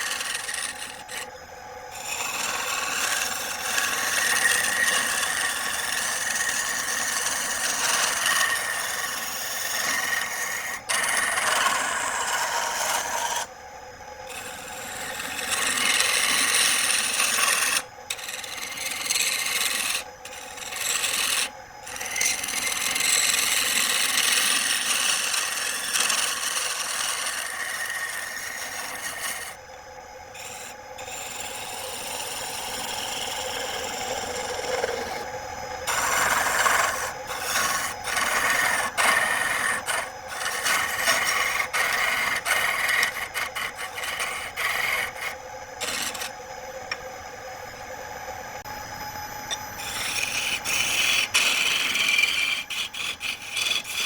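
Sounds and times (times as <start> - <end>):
lathe tool scraping wood: 0.0 - 13.6, 14.2 - 29.7, 30.3 - 47.0, 49.4 - 54.0.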